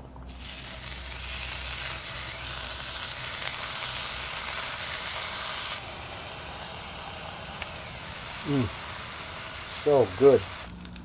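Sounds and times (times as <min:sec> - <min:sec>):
bacon sizzling on a griddle: 0:00.3 - 0:11.0.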